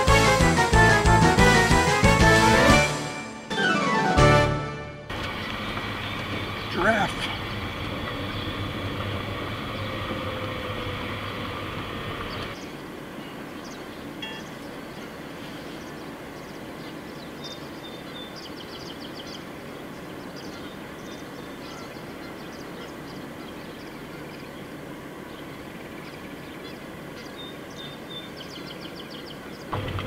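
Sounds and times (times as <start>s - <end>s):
birds chirping in rapid trills: 5.2s - 30.0s.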